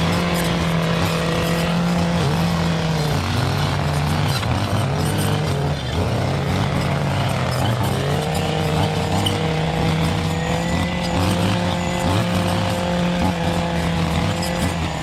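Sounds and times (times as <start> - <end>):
gas engine running under load: 0.0 - 15.0.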